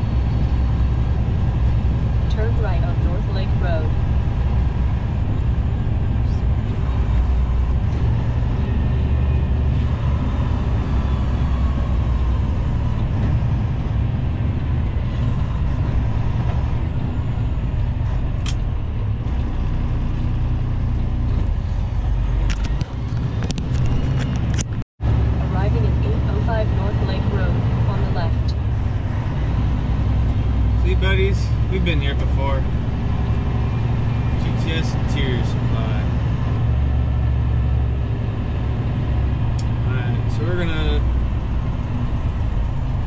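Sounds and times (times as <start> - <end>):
road noise: 0.0 - 43.0
truck diesel engine rumble: 0.0 - 43.0.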